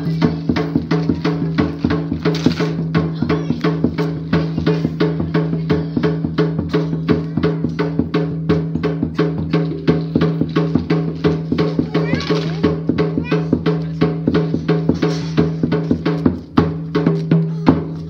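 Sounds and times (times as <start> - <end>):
drum beaten fast: 0.0 - 18.0.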